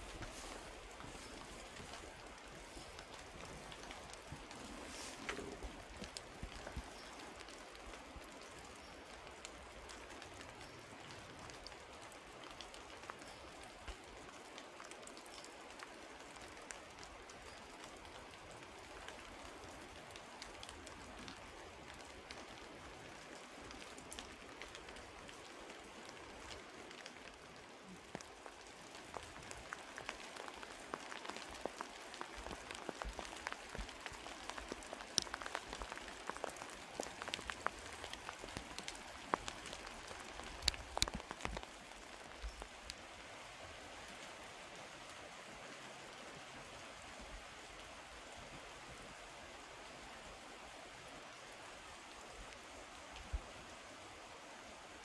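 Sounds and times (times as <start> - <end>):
light rain hissing: 0.0 - 55.0
patter of raindrops: 0.0 - 55.0.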